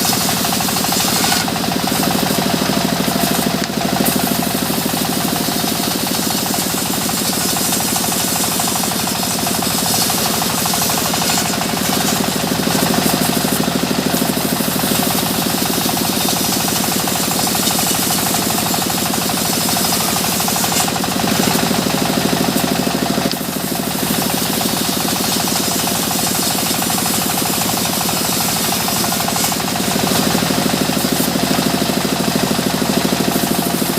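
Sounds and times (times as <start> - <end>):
sawmill machinery running: 0.0 - 33.9.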